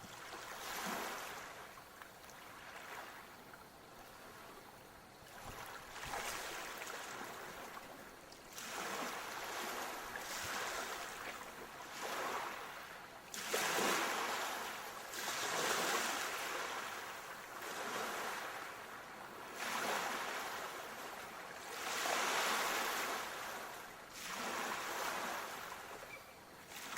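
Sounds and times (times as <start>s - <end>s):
sea waves washing ashore: 0.0s - 1.7s, 5.2s - 26.9s.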